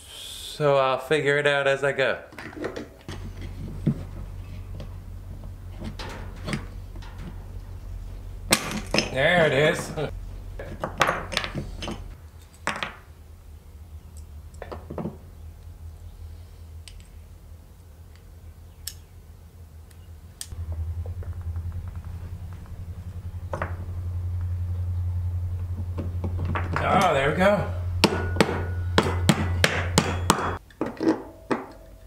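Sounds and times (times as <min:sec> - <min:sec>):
steady low hum: 0:03.0 - 0:32.0.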